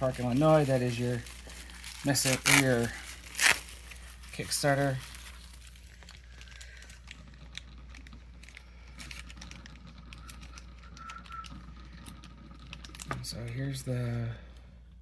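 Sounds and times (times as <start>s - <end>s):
packaging being handled: 0.0s - 13.8s
steady low hum: 0.0s - 15.0s.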